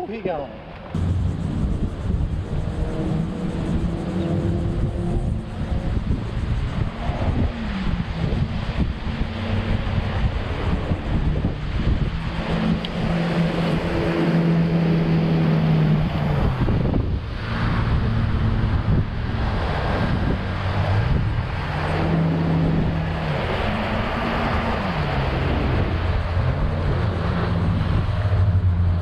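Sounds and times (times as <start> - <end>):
boat motor humming: 0.0 - 29.0
wind buffeting microphone: 0.0 - 29.0.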